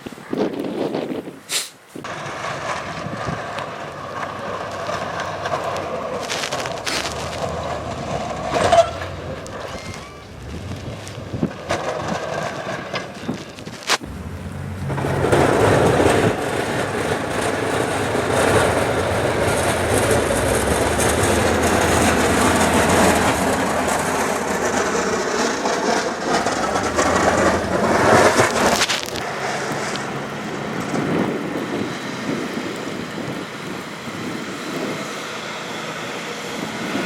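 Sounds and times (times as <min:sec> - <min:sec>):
heavy vehicle engine drone: 0:02.1 - 0:37.0
loud rushing grinding noise: 0:02.1 - 0:37.0.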